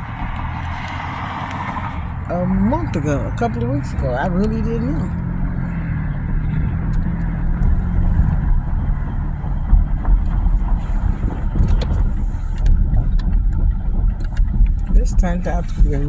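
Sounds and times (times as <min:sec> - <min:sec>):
car engine and road rumble: 0:00.0 - 0:16.0
low hum: 0:00.0 - 0:16.0.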